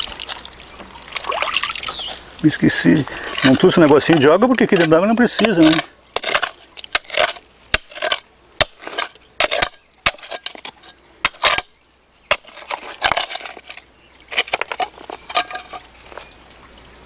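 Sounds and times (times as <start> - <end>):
hand tool scraping gravel: 2.0 - 16.3.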